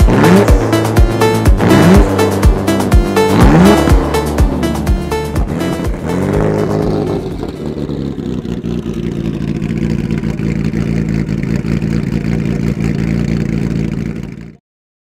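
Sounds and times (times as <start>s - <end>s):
race car engine idling: 0.0s - 14.6s.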